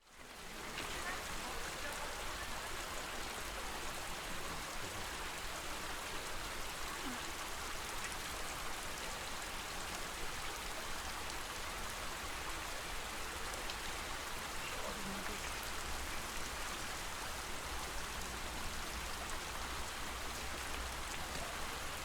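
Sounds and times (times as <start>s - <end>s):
water drips and splashes: 0.2s - 22.0s.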